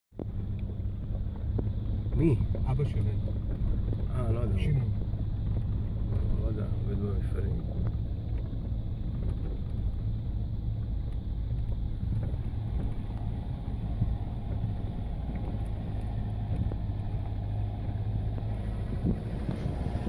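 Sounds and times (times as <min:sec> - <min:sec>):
vehicle engine and tyre rumble: 0:00.1 - 0:20.0.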